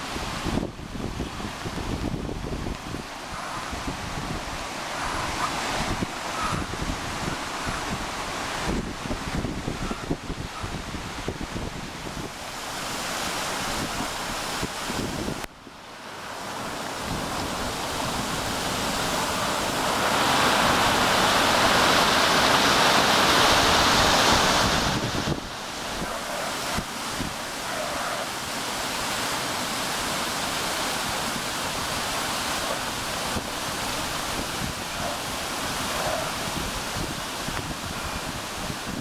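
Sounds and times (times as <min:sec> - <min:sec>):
water rushing over rocks: 0:00.0 - 0:39.0.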